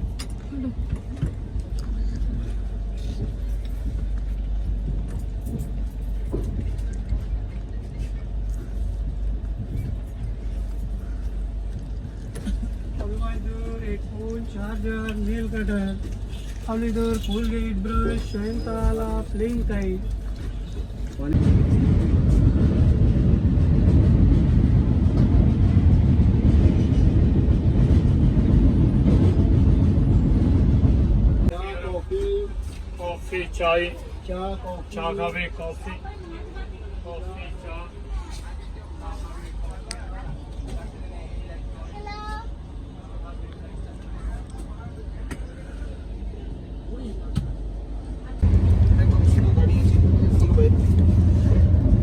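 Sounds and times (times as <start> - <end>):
moving train rumble: 0.0 - 52.0.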